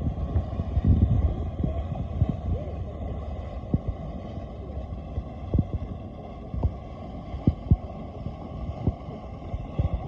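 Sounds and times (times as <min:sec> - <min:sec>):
low rumble: 0:00.0 - 0:10.0
mud pot bubbling: 0:00.0 - 0:10.0.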